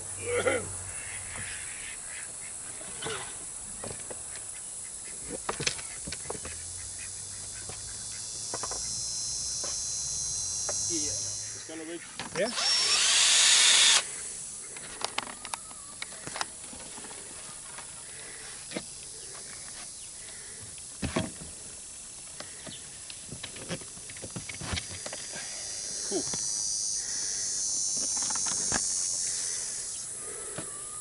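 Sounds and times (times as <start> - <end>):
insect buzzing hiss: 0.0 - 31.0.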